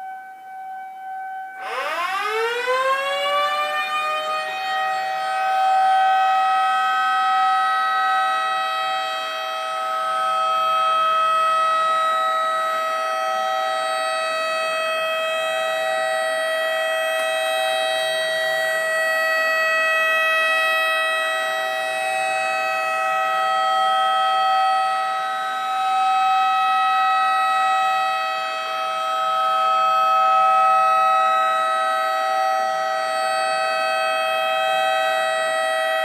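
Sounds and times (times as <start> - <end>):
electronic siren steady tone: 0.0 - 36.0.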